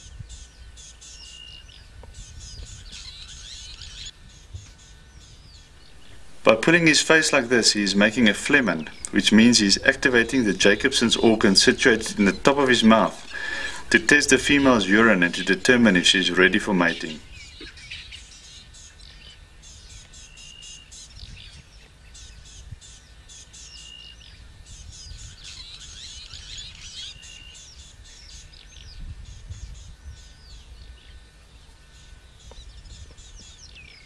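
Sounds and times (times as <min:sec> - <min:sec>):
birds chirping and trilling: 0:00.3 - 0:34.0.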